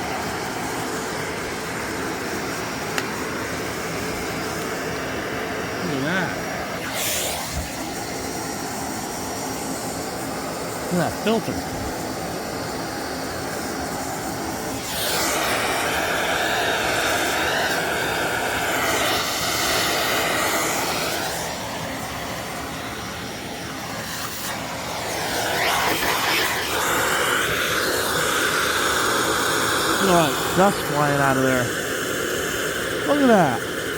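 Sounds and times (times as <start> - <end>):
air blower rushing: 1.9 - 33.9.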